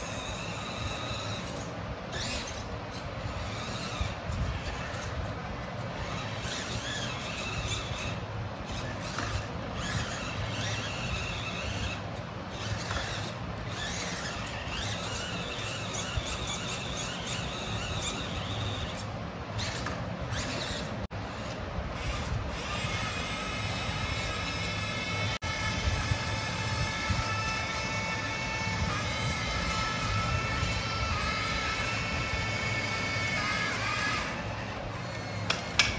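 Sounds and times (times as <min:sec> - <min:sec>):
electric motor whining: 0:00.0 - 0:35.9
steady low hum: 0:00.0 - 0:35.9.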